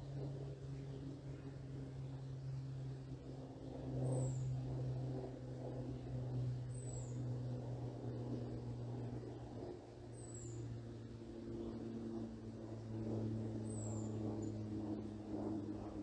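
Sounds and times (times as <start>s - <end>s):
aircraft engine drone overhead: 0.0s - 16.0s.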